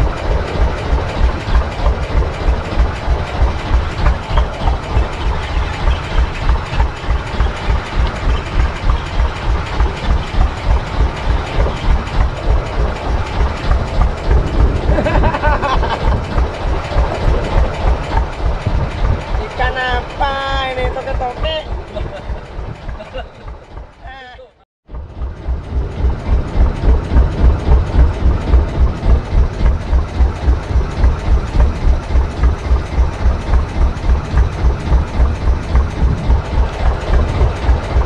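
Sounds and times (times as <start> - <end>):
boat engine pulsing: 0.0 - 38.0.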